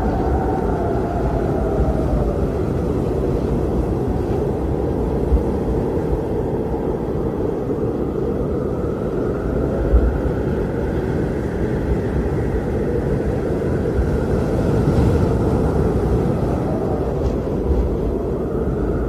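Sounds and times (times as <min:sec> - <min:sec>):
blizzard wind blowing: 0:00.0 - 0:19.0
high wind howl: 0:00.0 - 0:19.0.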